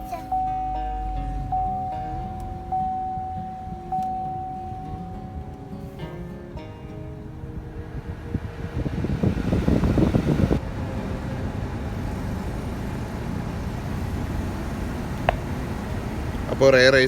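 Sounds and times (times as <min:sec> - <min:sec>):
car air conditioning blowers: 0:00.0 - 0:17.0.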